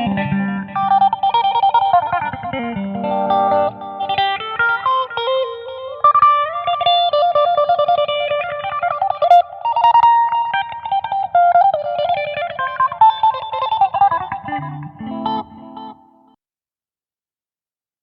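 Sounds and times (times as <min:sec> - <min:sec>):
electric guitar lead melody: 0:00.0 - 0:16.4.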